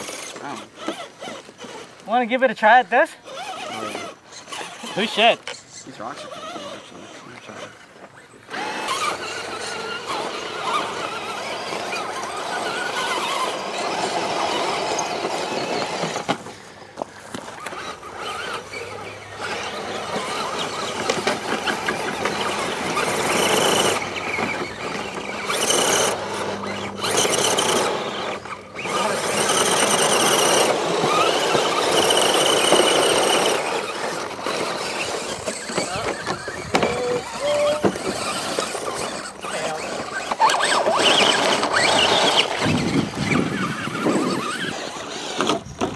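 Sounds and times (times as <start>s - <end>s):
electric motors whining: 0.0s - 45.9s
tyres scrabbling in dirt: 0.0s - 45.9s.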